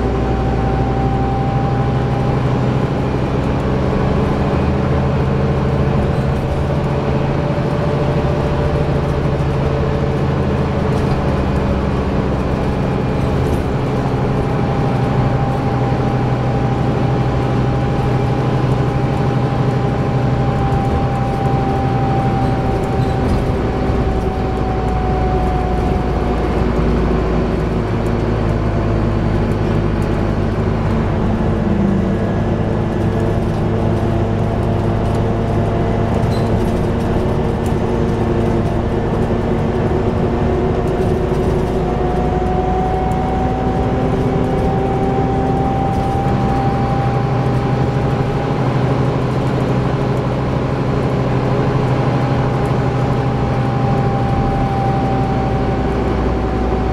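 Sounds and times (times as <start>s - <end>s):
bus engine droning: 0.0s - 56.9s
road noise: 0.0s - 56.9s.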